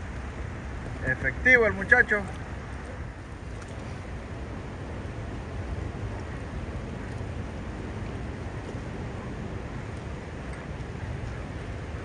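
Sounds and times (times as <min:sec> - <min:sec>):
water rushing below a dam: 0:00.0 - 0:12.0.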